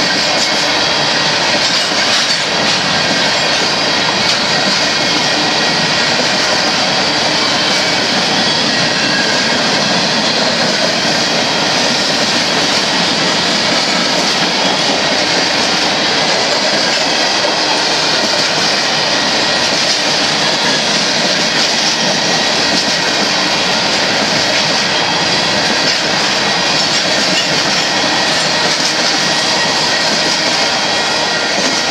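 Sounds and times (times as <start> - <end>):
train wheels on rails: 0.0 - 31.9.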